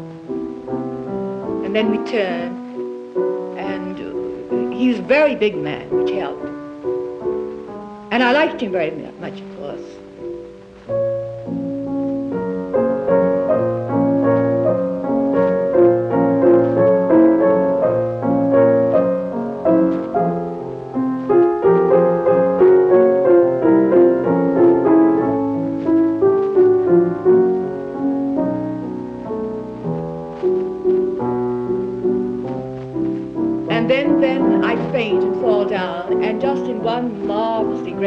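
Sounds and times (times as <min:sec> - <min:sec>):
flowing piano melody: 0:00.0 - 0:38.0.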